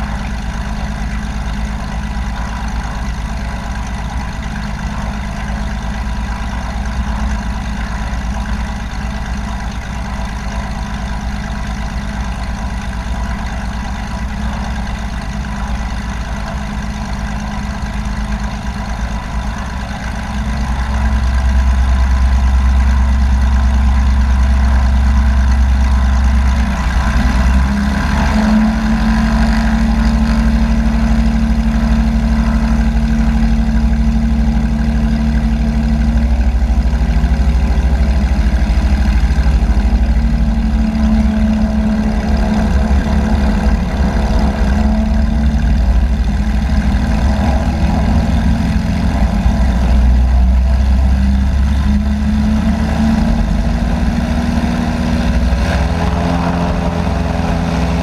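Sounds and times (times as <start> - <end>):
light aircraft engine running: 0.0 - 58.0.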